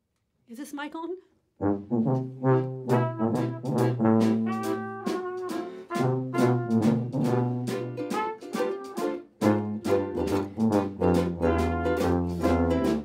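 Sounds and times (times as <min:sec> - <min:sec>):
trumpet jazz solo: 0:01.6 - 0:13.0.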